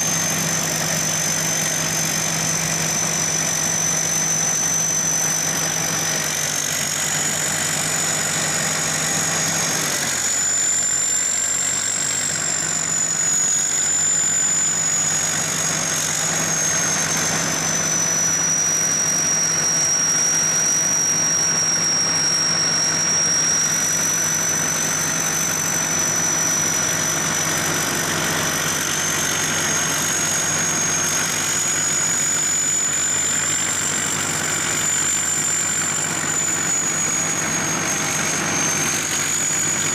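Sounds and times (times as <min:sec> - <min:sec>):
combine harvester running: 0:00.0 - 0:39.9
high-pitched whine: 0:00.0 - 0:39.9.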